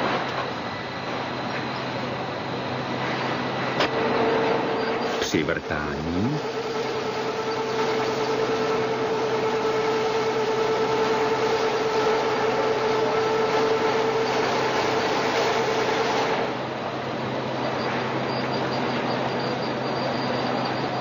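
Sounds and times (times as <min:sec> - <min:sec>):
machine tool whine: 0:00.0 - 0:21.0
mechanical hum: 0:00.0 - 0:21.0.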